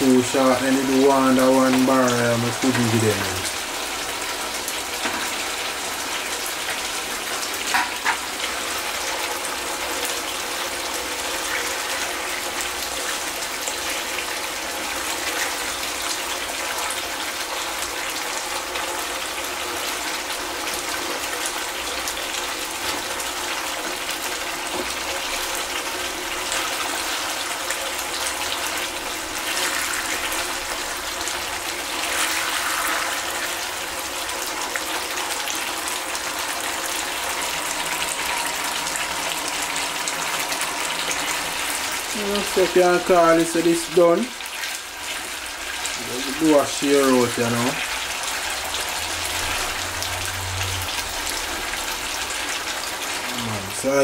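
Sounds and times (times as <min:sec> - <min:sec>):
sauce sizzling in a frying pan: 0:00.0 - 0:54.0.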